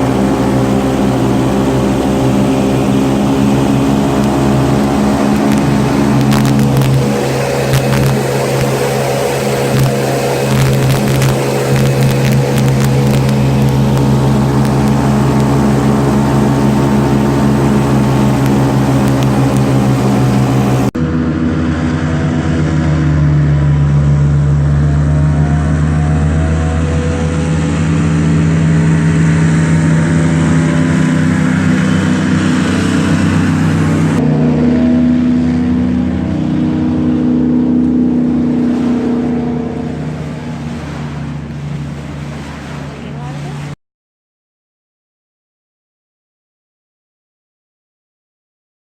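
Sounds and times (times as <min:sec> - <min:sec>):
airboat engine droning: 0:00.0 - 0:43.8.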